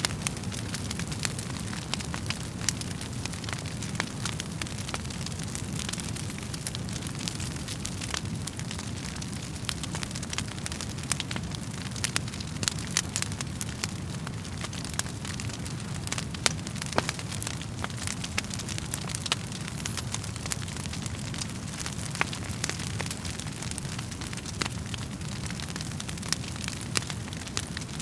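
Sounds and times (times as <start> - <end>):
low rumble of flames: 0.0 - 28.0
wood fire crackling: 0.0 - 28.0.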